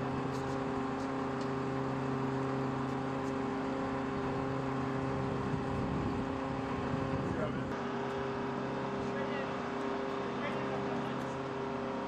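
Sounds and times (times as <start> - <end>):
large engine humming steadily: 0.0 - 12.0.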